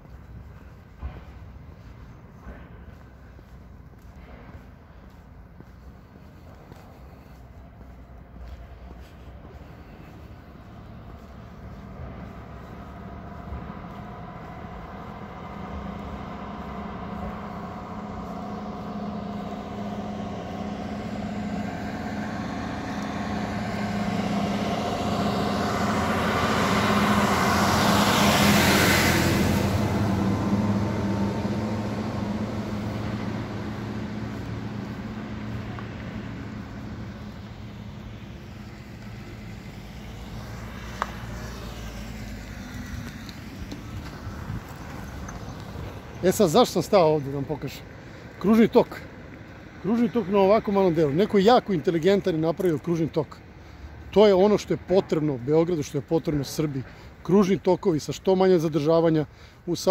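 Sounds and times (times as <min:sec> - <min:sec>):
low engine hum: 0:00.0 - 0:59.9
vehicle passing by: 0:00.0 - 0:59.9.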